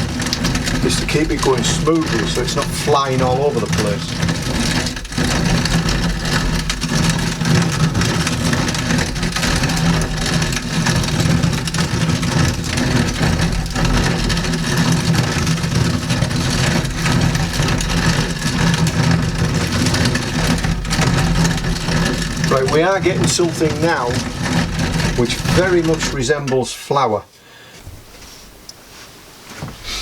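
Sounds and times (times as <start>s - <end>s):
hand-cranked grain mill grinding: 0.0s - 27.1s, 29.8s - 30.0s.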